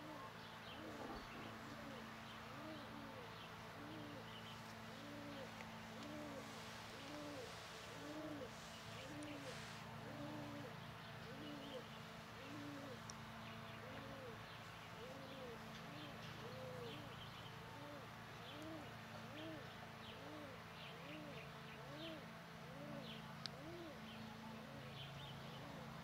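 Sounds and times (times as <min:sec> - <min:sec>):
pigeon cooing: 0:00.0 - 0:13.0, 0:13.8 - 0:14.4, 0:15.0 - 0:24.0, 0:24.6 - 0:26.0
small birds chirping: 0:00.0 - 0:22.3.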